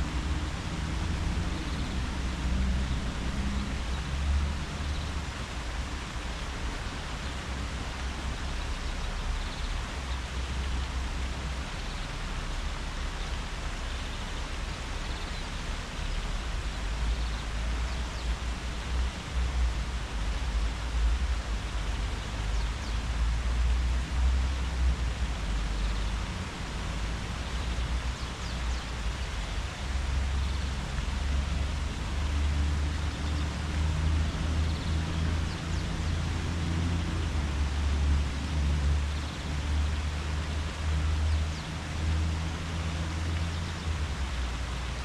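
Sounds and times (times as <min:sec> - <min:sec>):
low uneven rumble: 0:00.0 - 0:45.0
wind rustling leaves: 0:00.0 - 0:45.0.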